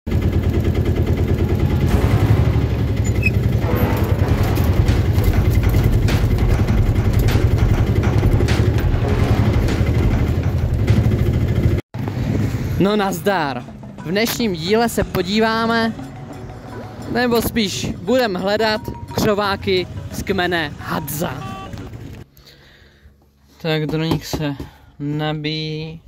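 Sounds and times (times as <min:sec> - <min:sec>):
auto-rickshaw engine running: 0:00.1 - 0:22.4.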